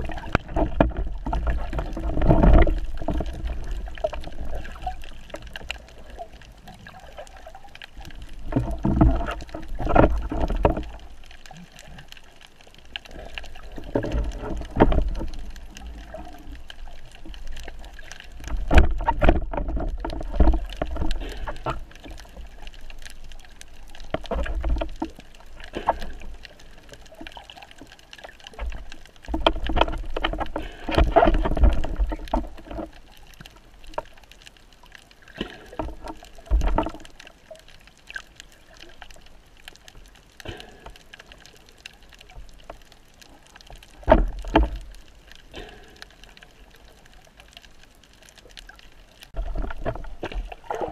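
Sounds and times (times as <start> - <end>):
water rushing underwater: 0.0 - 50.9.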